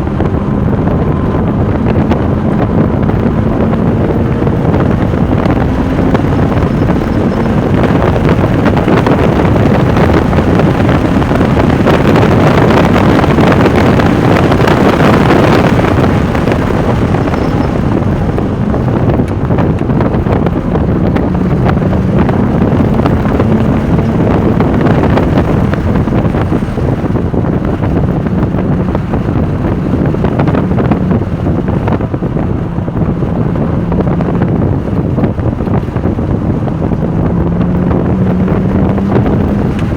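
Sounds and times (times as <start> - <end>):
car engine driven hard: 0.0 - 39.9
wind noise on microphone: 0.0 - 39.9.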